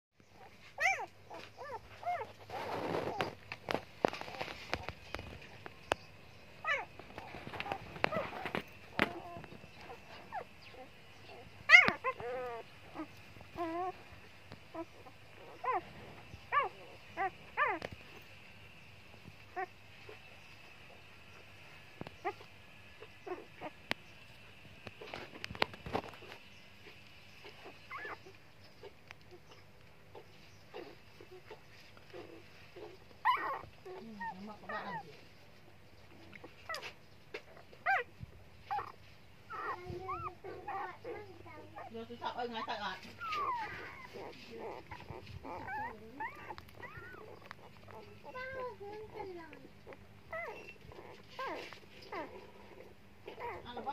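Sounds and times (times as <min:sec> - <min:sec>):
puppies whimpering: 0:00.2 - 0:53.9.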